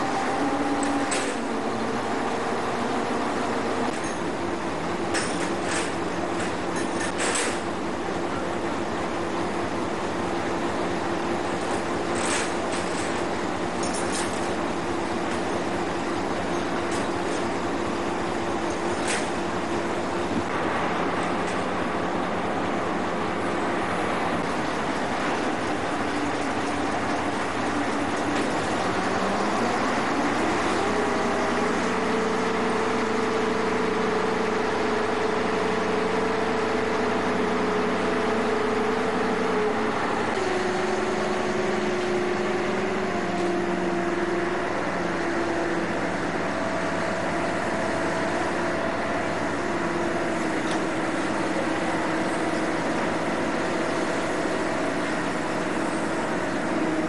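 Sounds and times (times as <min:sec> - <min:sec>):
ship engine running: 0:00.0 - 0:57.0.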